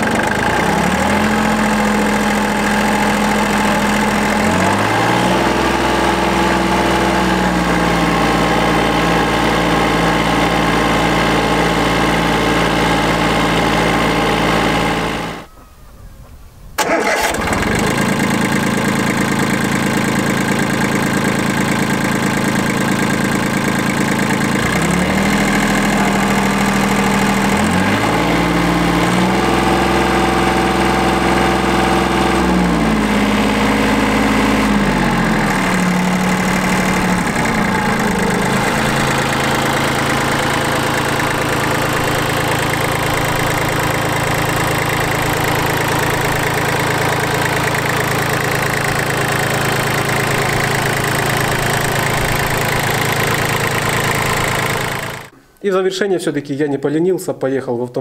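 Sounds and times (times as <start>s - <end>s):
tractor diesel engine revving: 0.0s - 15.5s, 16.8s - 55.3s.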